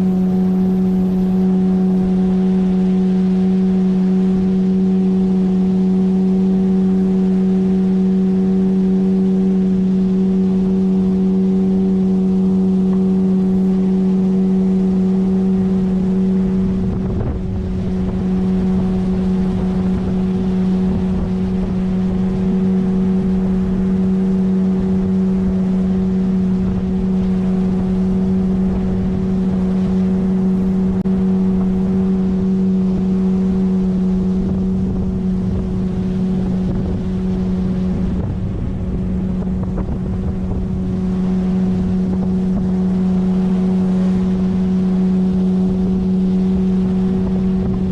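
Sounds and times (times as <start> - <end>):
outboard motor running: 0.0 - 47.9
wind on microphone: 0.0 - 47.9.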